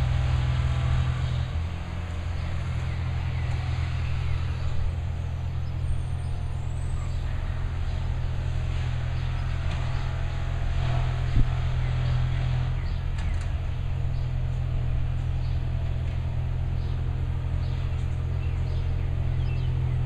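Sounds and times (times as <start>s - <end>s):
heavy trucks engine drone: 0.0s - 20.0s.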